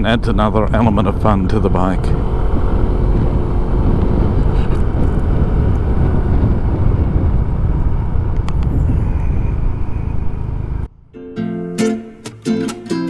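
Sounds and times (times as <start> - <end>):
scooter engine: 0.0 - 11.1
wind rushing over microphone: 0.0 - 11.1
road noise: 0.0 - 11.3.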